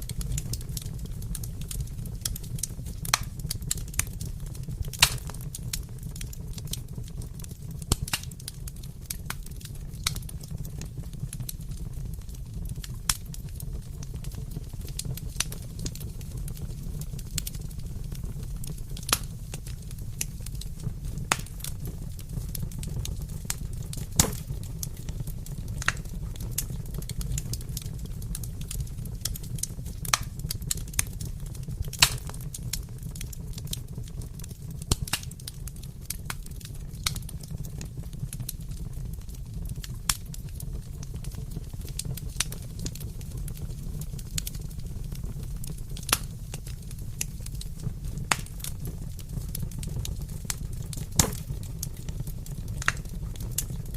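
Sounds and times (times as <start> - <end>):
burning wood crackling and popping: 0.0 - 53.9
low rumble of flames: 0.0 - 53.9.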